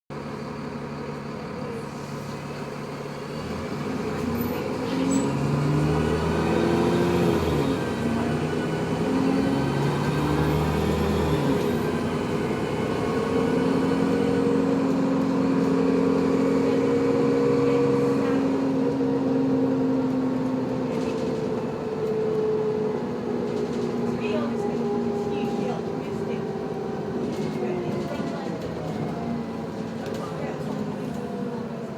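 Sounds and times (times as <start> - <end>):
vehicle drivetrain whining: 0.2 - 31.9.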